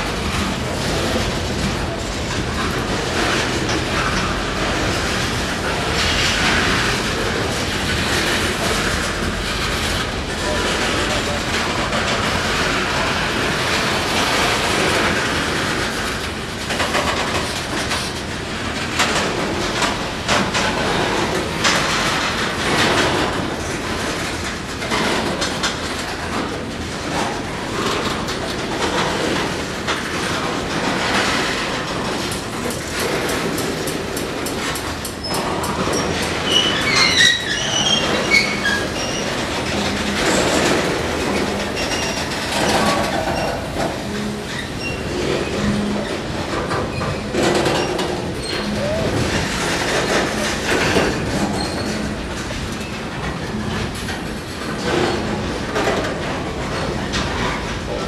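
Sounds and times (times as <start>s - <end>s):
train rumbling past: 0.0s - 58.0s
wheels clicking over rails: 0.0s - 58.0s.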